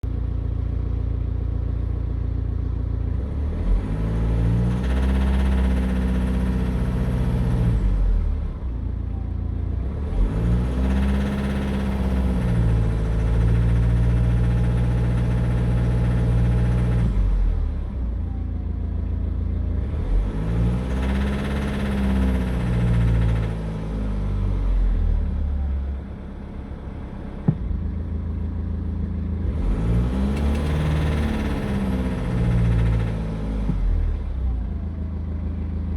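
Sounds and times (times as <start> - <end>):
diesel engine revving: 3.0 - 8.8, 9.7 - 18.6, 19.6 - 35.9.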